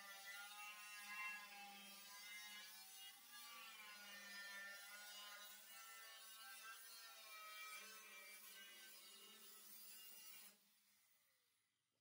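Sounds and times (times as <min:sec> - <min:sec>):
angle grinder cutting sheet steel: 0:00.0 - 0:11.1.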